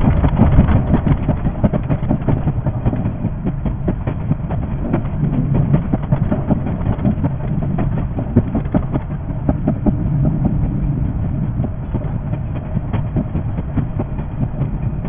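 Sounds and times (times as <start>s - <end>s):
electric train rumbling: 0.0s - 15.0s
wheel clicks over rails: 0.0s - 15.0s.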